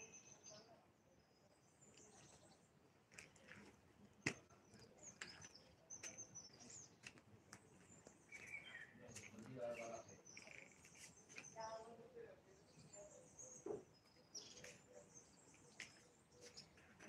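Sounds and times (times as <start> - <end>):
faint birdsong chirps: 0.0 - 17.0.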